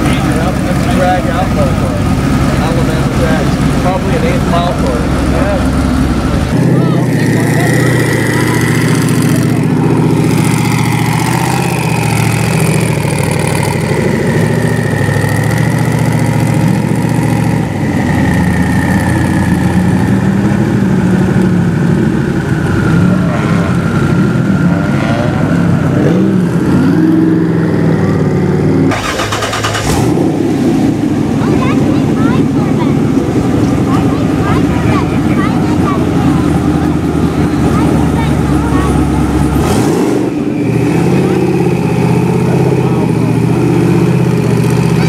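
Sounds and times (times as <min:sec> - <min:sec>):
car engine running and idling: 0:00.0 - 0:45.0.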